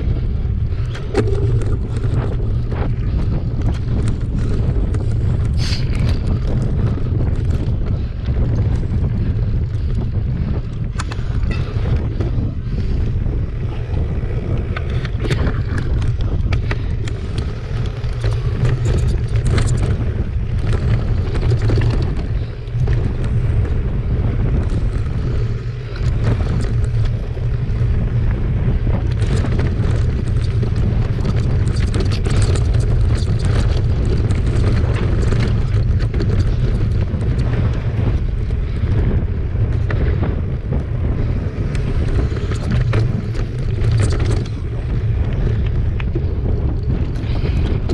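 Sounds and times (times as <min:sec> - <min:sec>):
bike knocking and rattling: 0:00.0 - 0:47.9
bike tyres on dirt: 0:00.0 - 0:47.9
wind rumble on microphone: 0:00.0 - 0:47.9.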